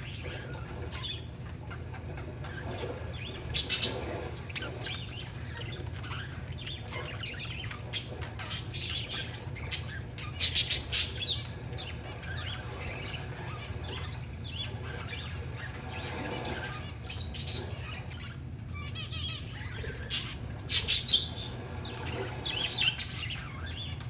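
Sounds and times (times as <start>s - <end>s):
parakeets and finches chirping: 0.0s - 24.0s
steady low hum: 0.0s - 24.0s.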